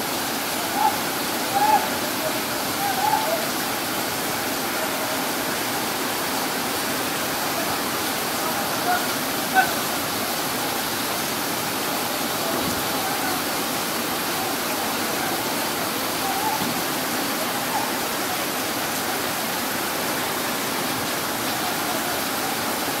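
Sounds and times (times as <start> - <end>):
rushing floodwater: 0.0 - 23.0.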